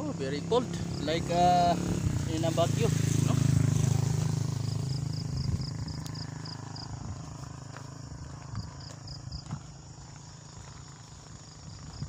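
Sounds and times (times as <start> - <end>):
passing vehicle engine drone: 0.0 - 11.0
insect chirping: 0.1 - 12.0.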